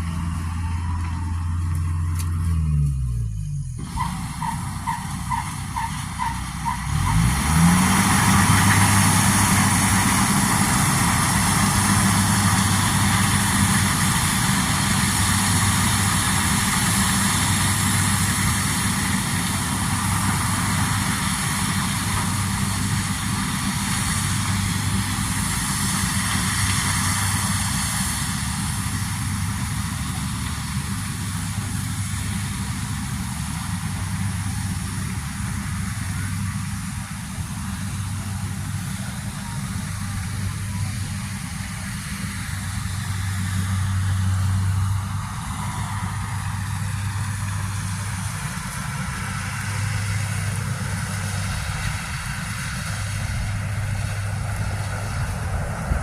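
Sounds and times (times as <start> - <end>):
harvester engine running: 0.0 - 56.0.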